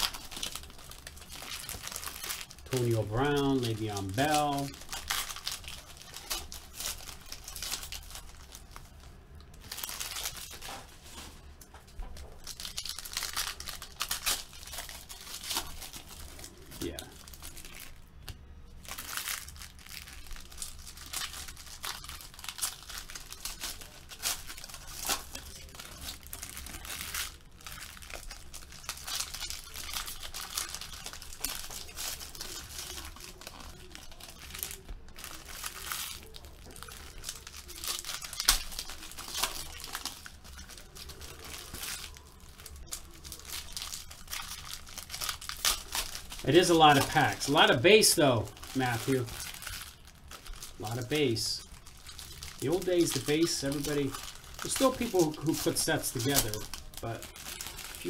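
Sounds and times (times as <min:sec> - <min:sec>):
card pack wrappers crinkling and tearing: 0:00.0 - 0:58.0.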